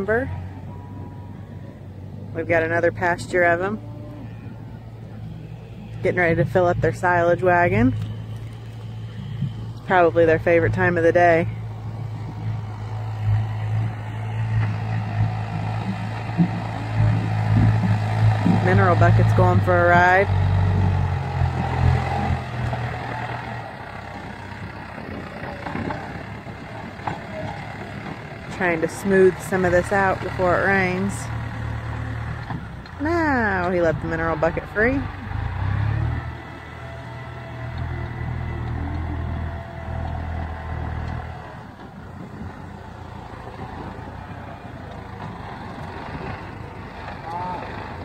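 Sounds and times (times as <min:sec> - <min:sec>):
tractor diesel engine: 0:00.0 - 0:48.0.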